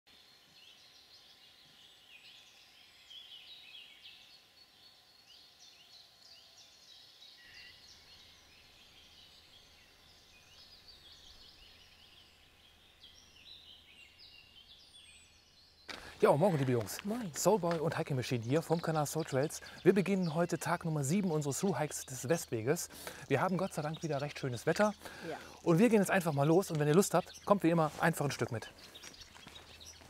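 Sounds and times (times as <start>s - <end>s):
faint songbirds chirping: 0.1s - 30.0s.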